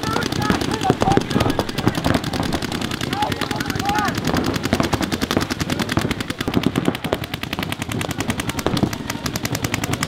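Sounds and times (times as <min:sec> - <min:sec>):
paintball markers firing rapidly: 0:00.0 - 0:10.0.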